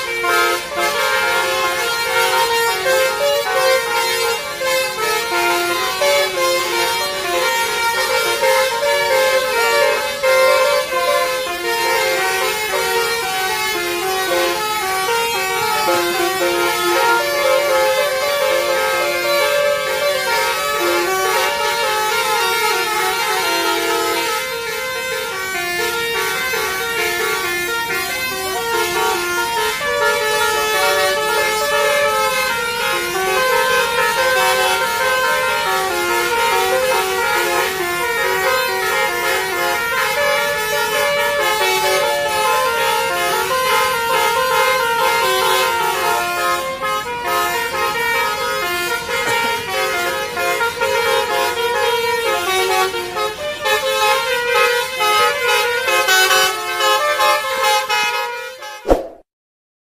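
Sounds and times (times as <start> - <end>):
melodic bus air horn: 0.0 - 58.8.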